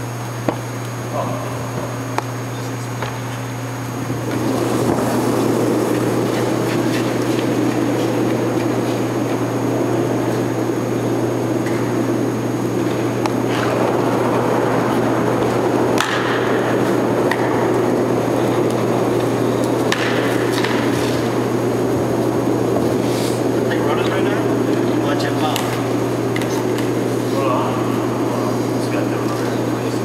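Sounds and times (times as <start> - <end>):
low rumble and hum: 0.0 - 30.0.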